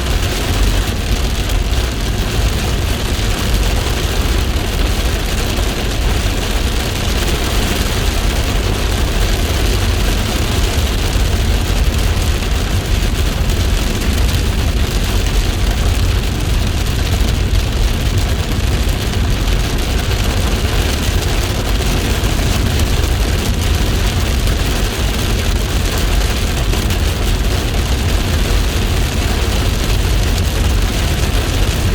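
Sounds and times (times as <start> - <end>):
heavy rain pouring: 0.0 - 31.9
low rumble: 0.0 - 31.9.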